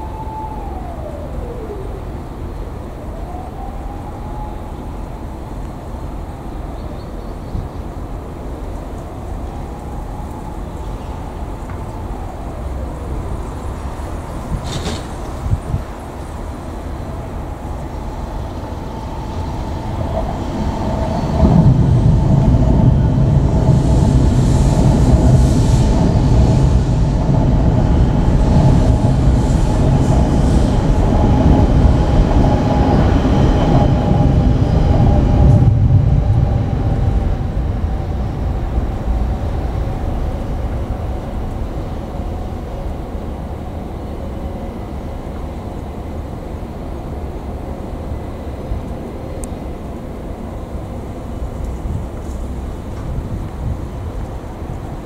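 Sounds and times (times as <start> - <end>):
train rumbling with a hum: 0.0 - 55.0.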